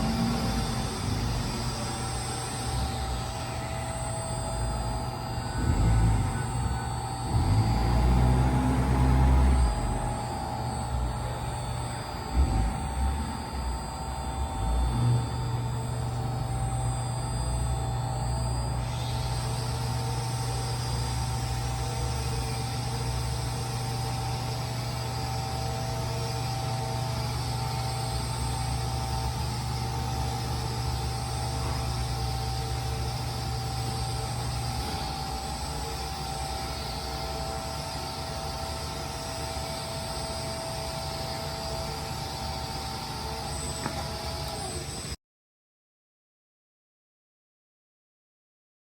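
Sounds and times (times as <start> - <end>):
electric drive hum and whine: 0.0 - 45.2
faint machine whine: 0.0 - 45.2.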